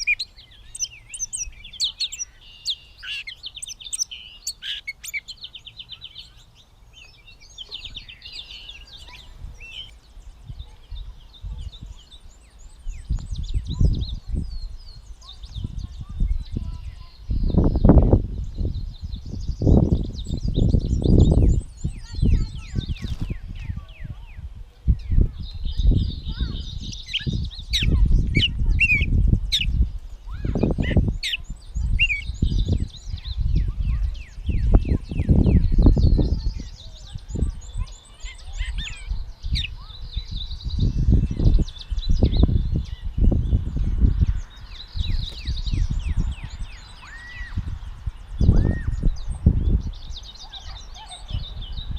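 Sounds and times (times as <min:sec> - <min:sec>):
bird singing varied phrases: 0:00.0 - 0:51.9.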